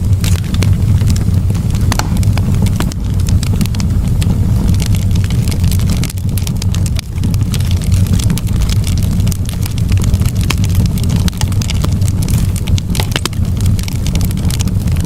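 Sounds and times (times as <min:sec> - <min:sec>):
burning wood crackling and popping: 0:00.0 - 0:15.0
low rumble: 0:00.0 - 0:15.0.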